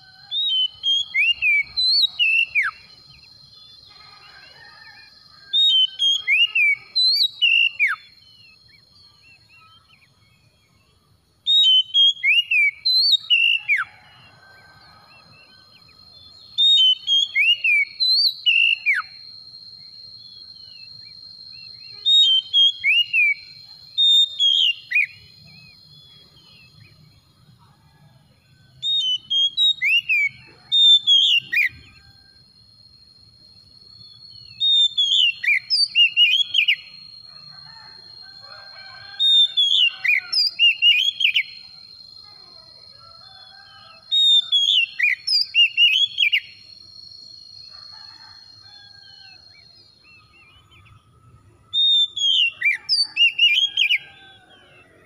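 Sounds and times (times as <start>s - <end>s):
bird singing whistled notes: 0.0s - 3.9s, 5.5s - 14.1s, 15.2s - 27.3s, 28.8s - 32.3s, 33.8s - 37.3s, 38.1s - 42.3s, 43.6s - 47.4s, 48.9s - 54.5s.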